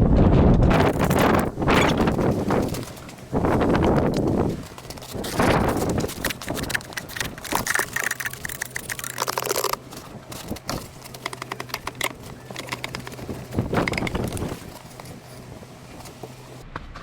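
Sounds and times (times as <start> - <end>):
crunching of wet snow and ice: 0.7 - 16.6.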